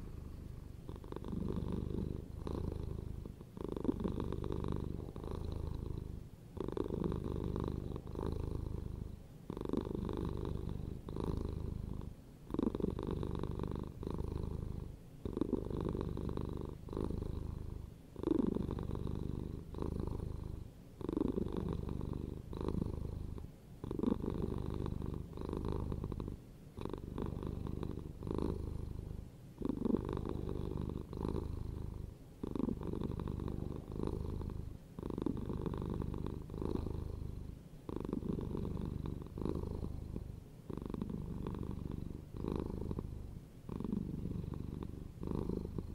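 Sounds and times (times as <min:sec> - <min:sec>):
cat purring: 0:00.0 - 0:45.9.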